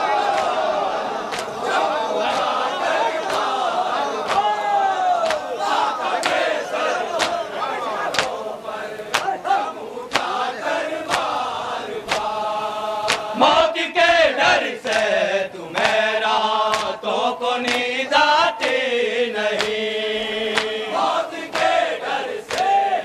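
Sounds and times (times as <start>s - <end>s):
men chanting a lament: 0.0s - 23.0s.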